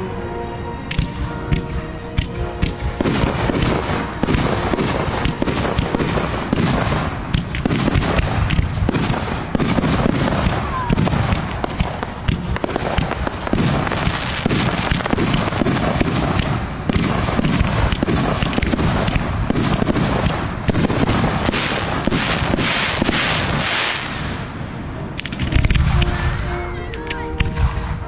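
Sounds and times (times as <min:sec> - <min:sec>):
fireworks bursting and crackling: 0:00.8 - 0:28.0.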